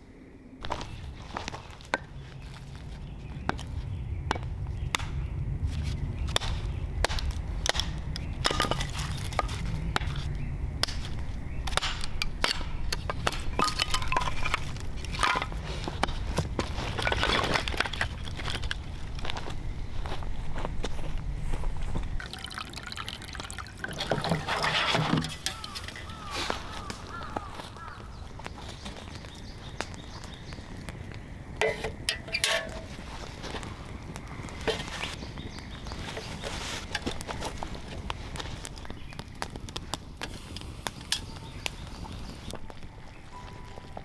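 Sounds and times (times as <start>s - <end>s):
campfire crackling and popping: 0.6s - 44.0s.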